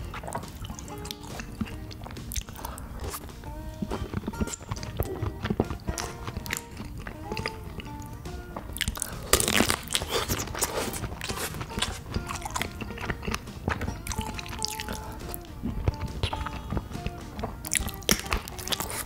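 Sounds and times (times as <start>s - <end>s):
biting into sausage: 0.0s - 19.0s
person chewing: 0.0s - 19.0s.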